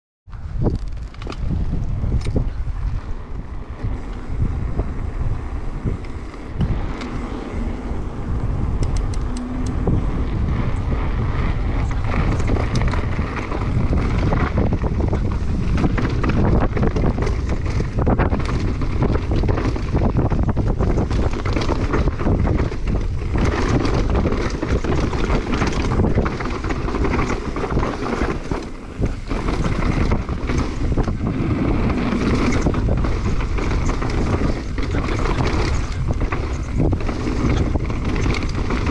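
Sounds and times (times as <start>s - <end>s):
bike rattling and knocking: 0.3s - 38.9s
wind buffeting microphone: 0.3s - 38.9s
tyres rolling over dirt and stones: 2.8s - 38.9s.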